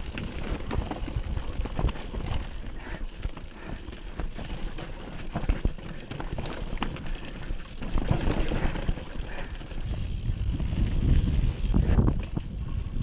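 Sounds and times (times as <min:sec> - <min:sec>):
bike clattering: 0:00.0 - 0:13.0.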